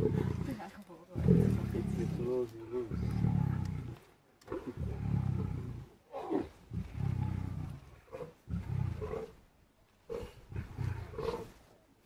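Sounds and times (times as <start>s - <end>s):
lion growling: 0.0s - 9.4s, 10.1s - 11.6s.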